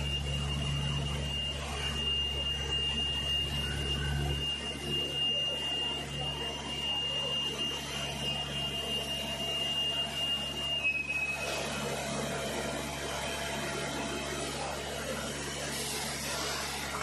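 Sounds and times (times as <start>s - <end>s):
factory machinery humming: 0.0s - 17.0s
high-pitched whine: 0.0s - 17.0s.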